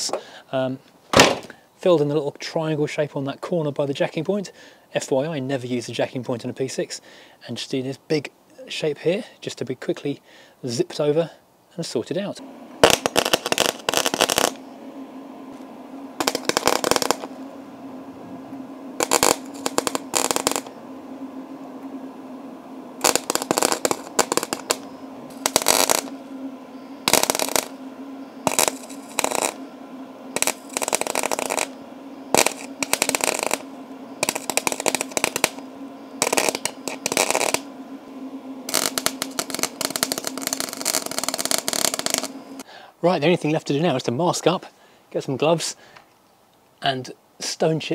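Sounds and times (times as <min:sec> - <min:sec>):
welding arc crackling sizzle: 0:00.0 - 0:07.0, 0:11.8 - 0:44.6
steady low hum: 0:00.0 - 0:47.9.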